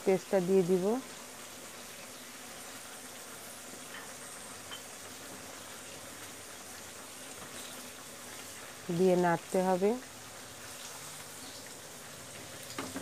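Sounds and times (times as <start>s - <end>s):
meat frying in a wok: 0.0s - 13.0s.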